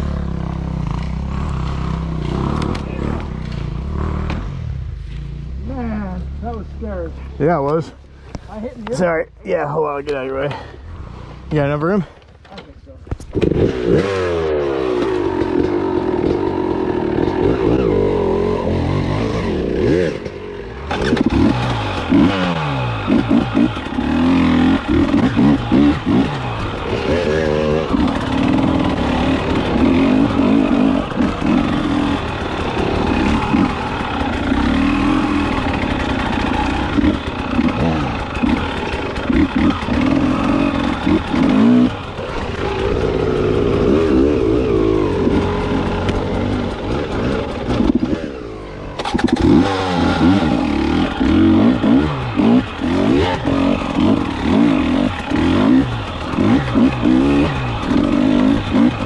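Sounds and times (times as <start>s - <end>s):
dirt bike engine revving: 0.0s - 7.1s, 13.3s - 59.0s.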